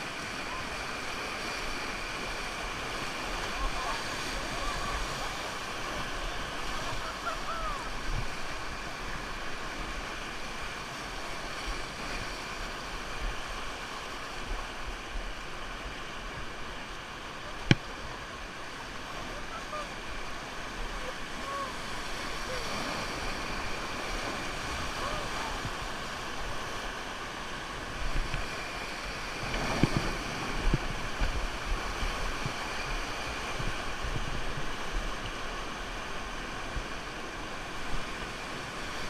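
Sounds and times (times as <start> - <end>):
fast river rushing: 0.0 - 39.0.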